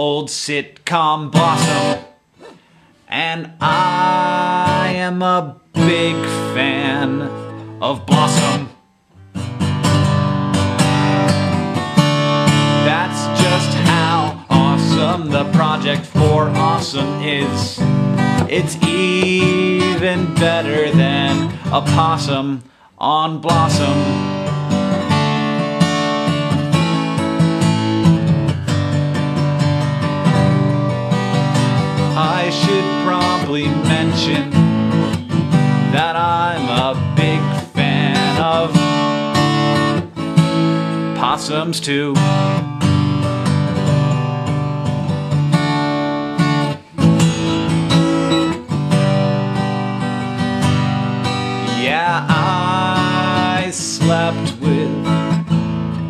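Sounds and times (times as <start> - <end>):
acoustic guitar strumming: 1.2 - 56.0.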